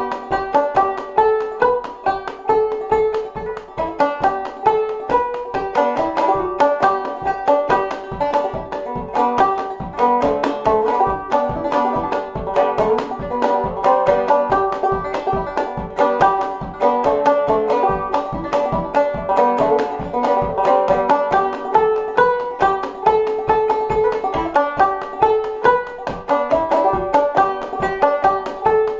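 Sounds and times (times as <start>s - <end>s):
banjo playing a quick reel: 0.0s - 28.9s.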